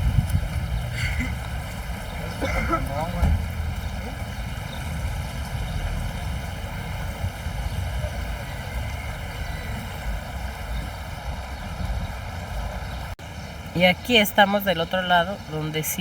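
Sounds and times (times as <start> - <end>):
wind buffeting microphone: 0.0 - 16.0
river flowing: 0.7 - 16.0.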